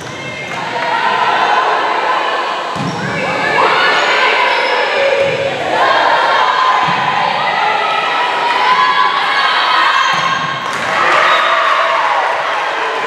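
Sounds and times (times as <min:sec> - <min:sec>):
crowd shouting and cheering: 0:00.0 - 0:13.0.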